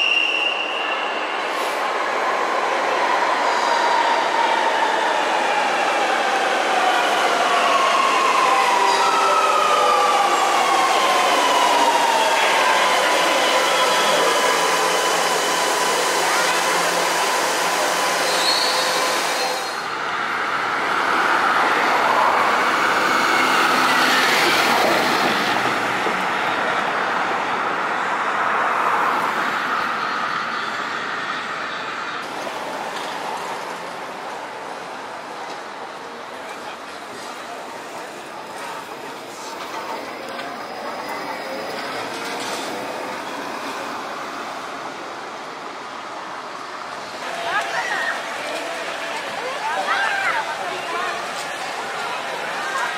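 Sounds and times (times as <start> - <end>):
city bus passing and pulling away: 0.0 - 52.9
street traffic: 0.0 - 52.9
train standing at platform: 0.0 - 52.9.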